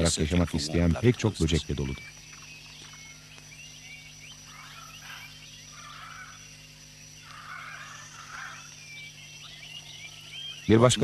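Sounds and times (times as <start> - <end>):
high insect whine: 0.0 - 11.0
short insect chirps: 0.0 - 11.0
warbling animal calls: 0.7 - 11.0.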